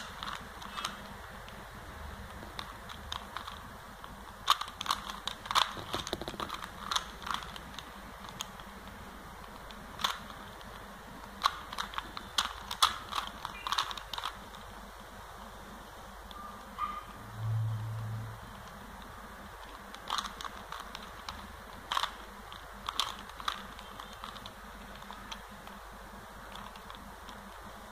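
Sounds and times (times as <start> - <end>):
plastic puzzle cube clicking: 0.0 - 1.6, 2.2 - 14.7, 18.6 - 27.9.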